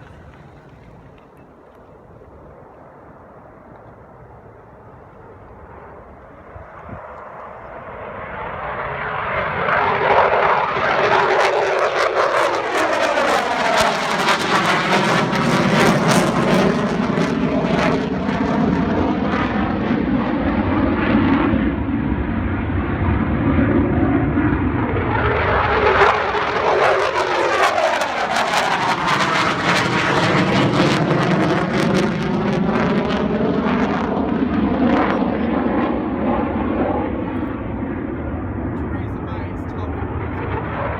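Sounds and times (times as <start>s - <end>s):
fighter jet flying past: 0.0s - 40.9s.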